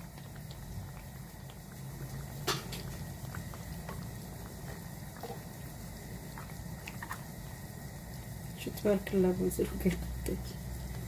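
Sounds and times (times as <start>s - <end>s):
sauce bubbling: 0.0s - 11.0s.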